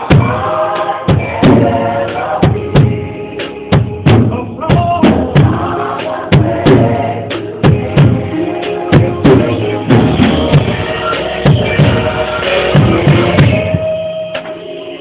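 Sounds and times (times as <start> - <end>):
bass and snare drum hits: 0.0 - 13.9
held instrument chords: 0.0 - 15.0.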